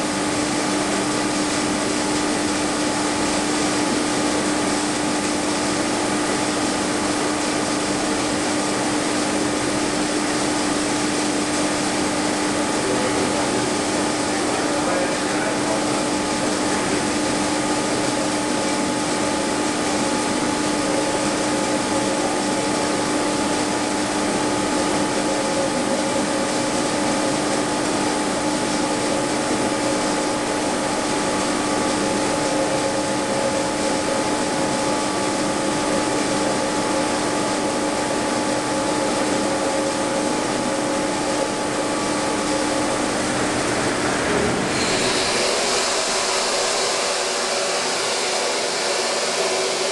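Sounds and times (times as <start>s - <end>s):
water turbine and generator humming: 0.0s - 49.9s.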